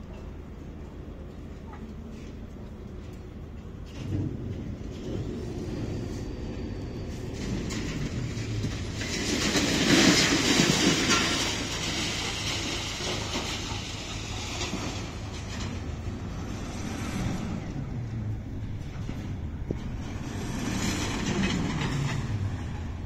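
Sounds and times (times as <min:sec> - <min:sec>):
heavy machinery rumbling and rattling: 0:00.0 - 0:23.0.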